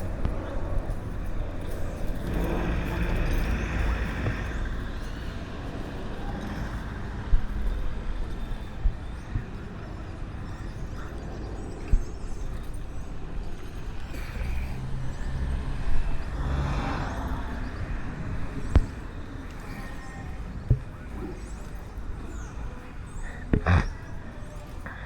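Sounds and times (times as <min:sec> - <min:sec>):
low rumbling movement noise: 0:00.0 - 0:25.0.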